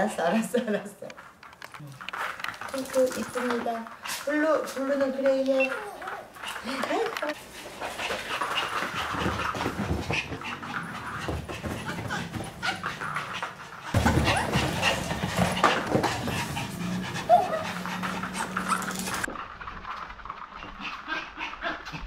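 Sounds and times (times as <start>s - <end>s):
paws and claws clicking: 1.0s - 22.0s
dogs panting: 2.1s - 22.0s.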